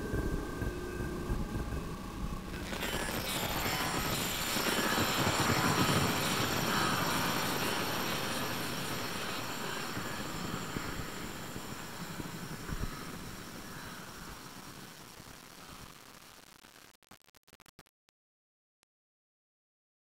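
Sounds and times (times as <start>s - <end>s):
hissing electronic drone: 0.0s - 16.8s.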